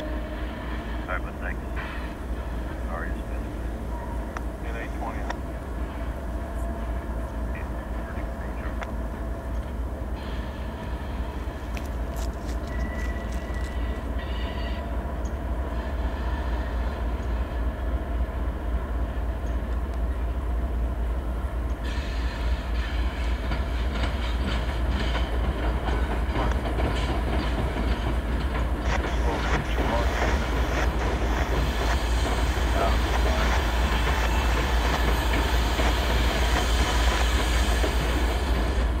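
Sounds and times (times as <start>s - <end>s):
locomotive engines rumbling: 0.0s - 39.0s
train wheels clicking on rails: 0.0s - 39.0s.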